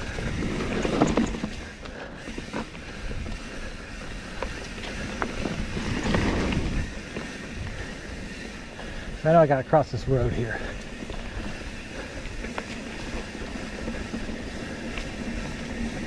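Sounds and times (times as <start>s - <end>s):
bike clicks and knocks over bumps: 0.0s - 9.3s, 10.5s - 16.0s
bike tyres on dirt trail: 0.0s - 16.0s.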